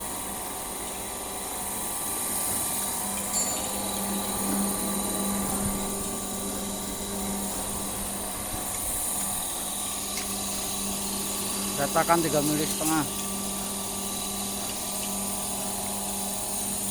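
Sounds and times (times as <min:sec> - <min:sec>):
electric motor humming: 0:00.2 - 0:16.9.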